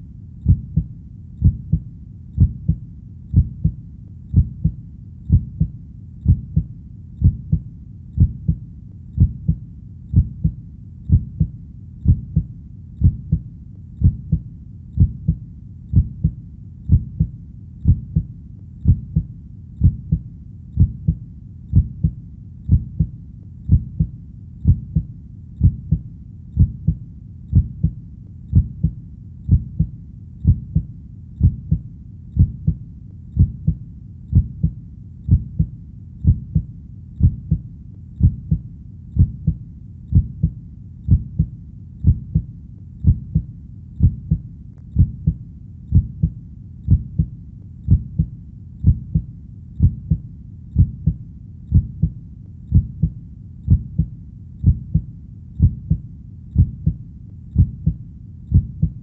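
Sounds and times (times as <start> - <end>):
heartbeat double thump: 0.4 - 1.8, 2.4 - 7.6, 8.2 - 8.6, 9.2 - 13.4, 14.0 - 14.4, 15.0 - 20.2, 20.8 - 23.1, 23.7 - 26.0, 26.6 - 31.8, 32.4 - 32.8, 33.4 - 37.6, 38.2 - 38.6, 39.2 - 44.4, 45.0 - 47.3, 47.9 - 50.2, 50.8 - 56.0, 56.6 - 57.0, 57.6 - 59.0.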